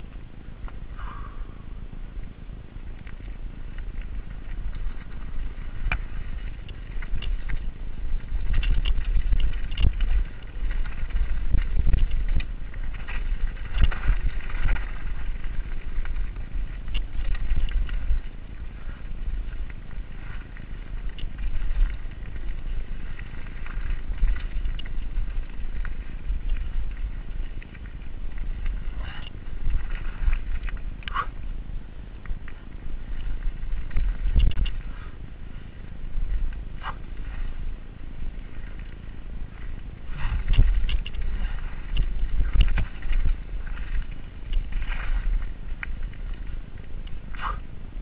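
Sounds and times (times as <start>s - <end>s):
bike tyres on dirt trail: 0.0s - 48.0s
wind rumbling on microphone: 0.0s - 48.0s
bike chain and frame rattling: 2.8s - 48.0s.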